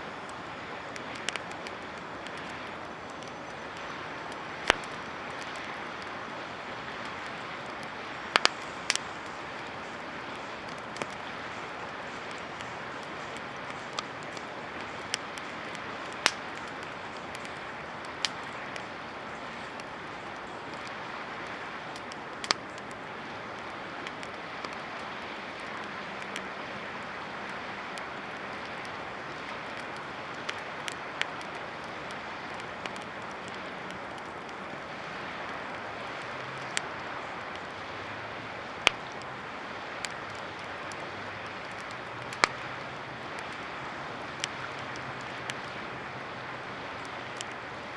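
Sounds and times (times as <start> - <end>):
campfire crackling: 0.0 - 47.9
fire pops: 0.0 - 47.9
fire rushing hiss: 0.0 - 47.9.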